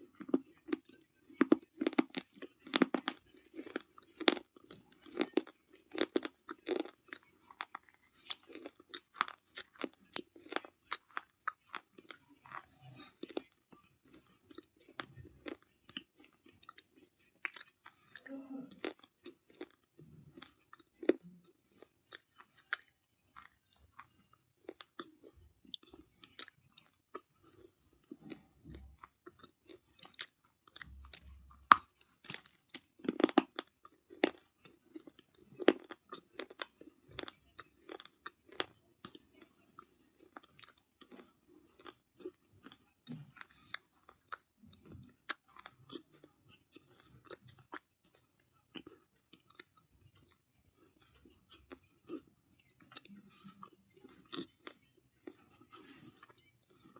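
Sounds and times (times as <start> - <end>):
person chewing crunchy clay: 0.0 - 56.9.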